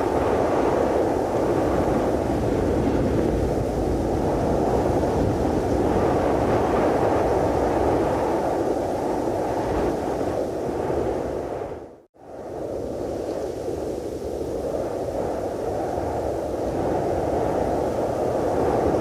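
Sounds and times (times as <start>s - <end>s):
steady rushing wind: 0.0s - 19.0s.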